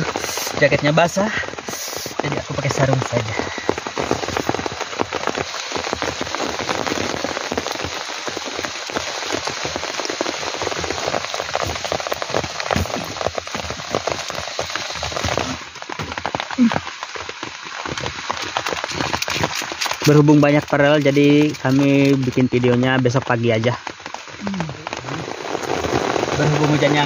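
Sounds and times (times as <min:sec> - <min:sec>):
heavy rain on a tent: 0:00.0 - 0:27.0.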